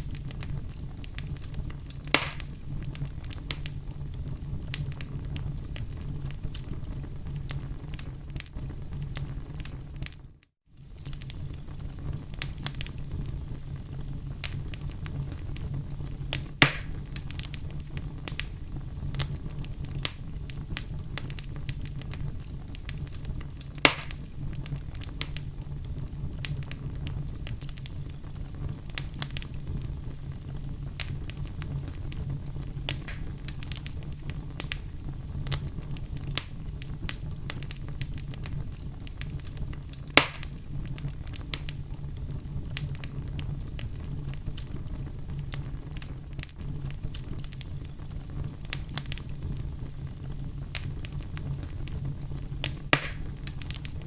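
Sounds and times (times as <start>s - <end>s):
fire crackling: 0.0s - 54.0s
low rumble of flames: 0.0s - 54.0s
sharp fire pops: 0.0s - 54.0s.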